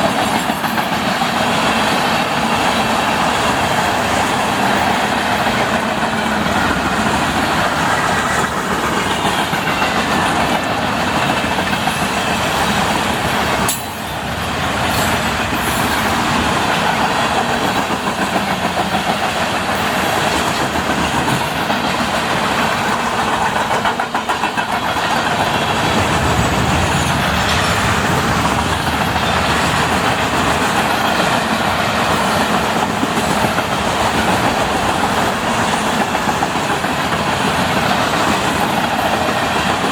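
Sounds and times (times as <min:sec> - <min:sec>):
freight train rumbling: 0:00.0 - 0:39.9
wheels clacking over rail joints: 0:00.0 - 0:39.9.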